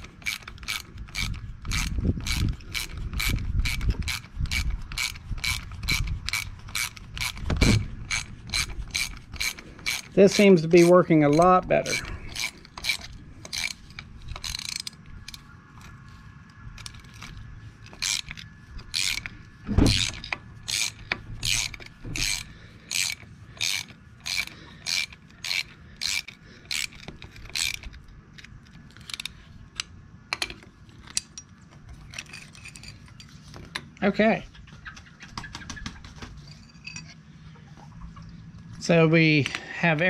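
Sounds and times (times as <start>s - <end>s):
ratchet wrench clicking: 0.0s - 15.9s, 16.8s - 33.3s.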